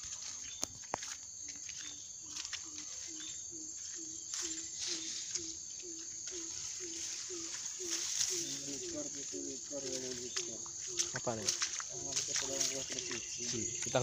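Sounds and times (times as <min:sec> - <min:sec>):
footsteps through grass and ferns: 0:00.0 - 0:14.0
high-pitched insect drone: 0:00.0 - 0:14.0.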